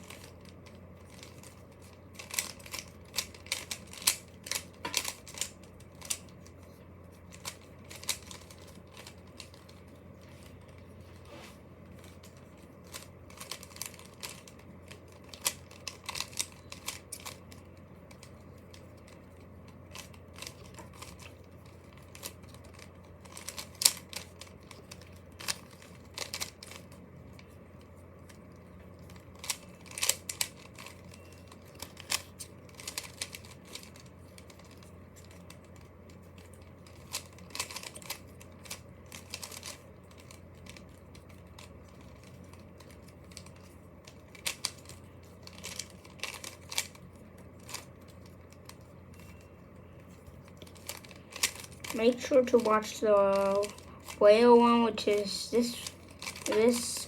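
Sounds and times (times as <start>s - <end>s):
plastic puzzle cube clicking: 0.0s - 6.4s, 7.3s - 10.4s, 12.9s - 26.9s, 29.1s - 35.9s, 36.5s - 47.0s, 47.6s - 48.8s, 50.5s - 54.2s, 55.3s - 57.0s.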